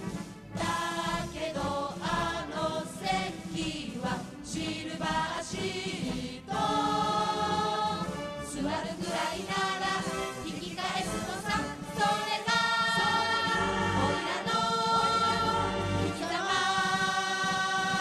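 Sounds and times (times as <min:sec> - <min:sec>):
choir singing: 0:00.6 - 0:18.0.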